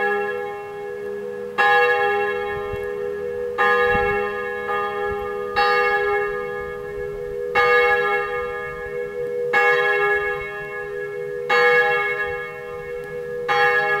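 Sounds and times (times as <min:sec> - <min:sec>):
church bell ringing: 0:00.0 - 0:14.0.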